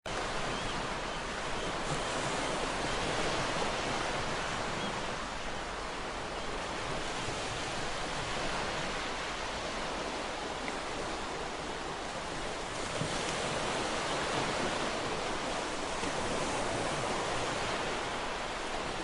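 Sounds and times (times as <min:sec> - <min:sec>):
ocean waves washing ashore: 0:00.1 - 0:19.0.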